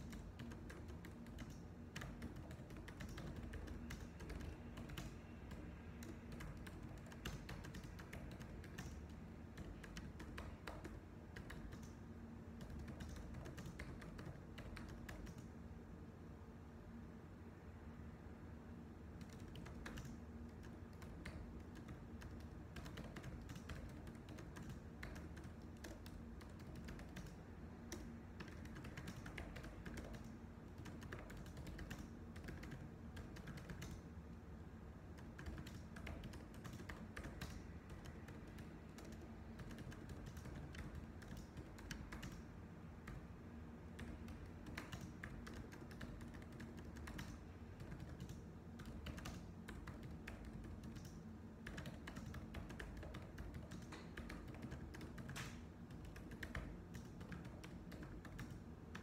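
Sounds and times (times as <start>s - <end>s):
keyboard typing: 0.0s - 15.6s, 19.2s - 34.2s, 35.1s - 43.3s, 43.9s - 59.0s.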